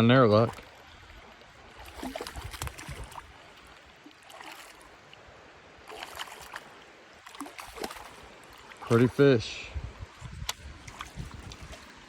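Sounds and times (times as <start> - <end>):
creek trickling over rocks: 0.0 - 12.0.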